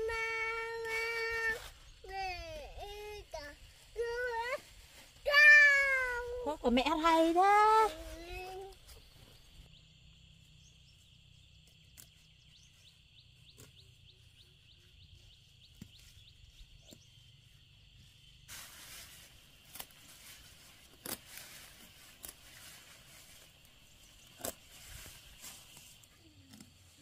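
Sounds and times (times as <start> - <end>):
rustling of leafy plants: 0.0 - 9.7, 11.5 - 27.0.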